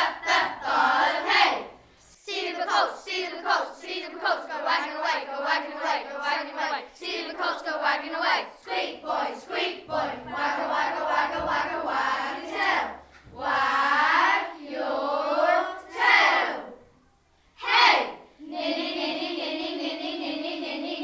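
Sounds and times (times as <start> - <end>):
children rapping in unison: 0.0 - 16.8
children singing: 0.0 - 16.8, 17.6 - 21.0.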